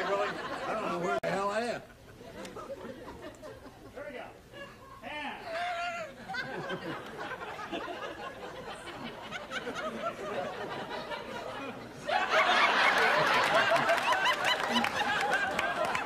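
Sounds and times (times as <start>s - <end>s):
group of people laughing: 0.0s - 1.2s, 2.0s - 4.0s, 5.6s - 16.0s.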